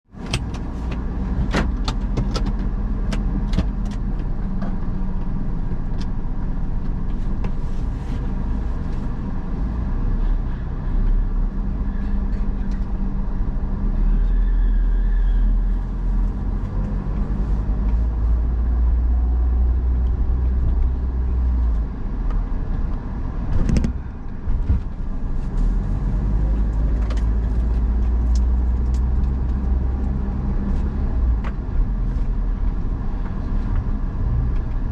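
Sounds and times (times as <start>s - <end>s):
car engine and road rumble: 0.0s - 34.9s.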